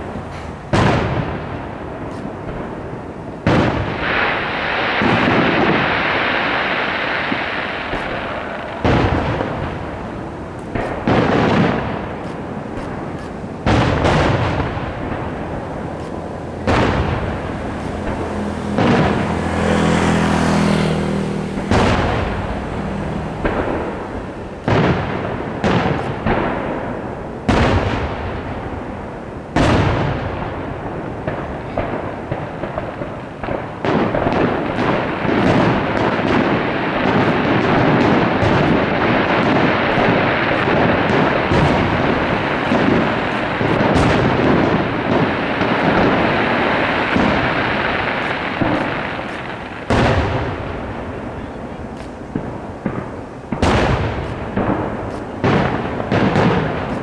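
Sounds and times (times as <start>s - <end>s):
fireworks banging with rumbling echo: 0.0s - 57.0s.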